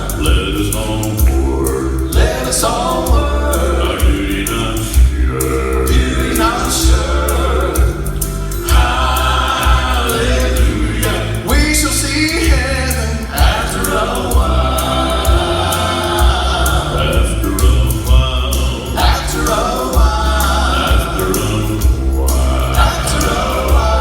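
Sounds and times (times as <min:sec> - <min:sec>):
instrumental accompaniment: 0:00.0 - 0:24.0
vocal quartet singing in harmony: 0:00.0 - 0:24.0.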